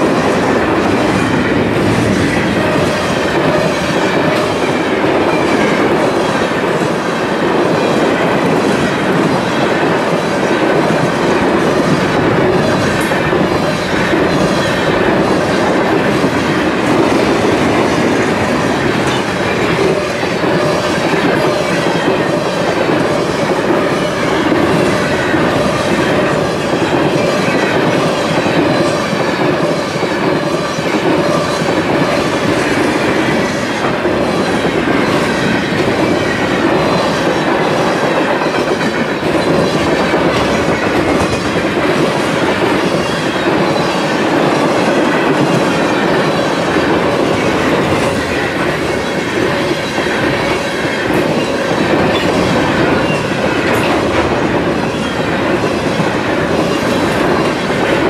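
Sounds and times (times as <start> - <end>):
clickety-clack of train wheels: 0.0 - 58.0
train wheels rumbling on rail: 0.0 - 58.0.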